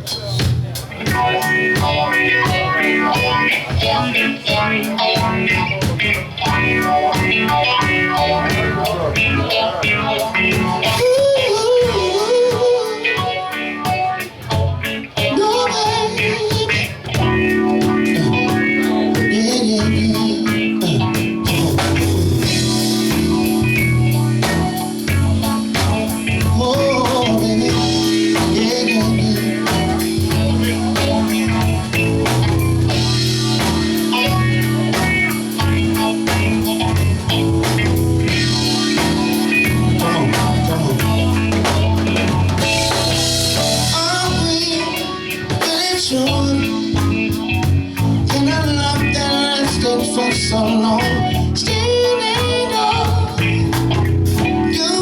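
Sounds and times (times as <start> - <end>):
drum kit: 0.0 - 55.0
guitar: 0.0 - 55.0
held chords: 0.1 - 55.0.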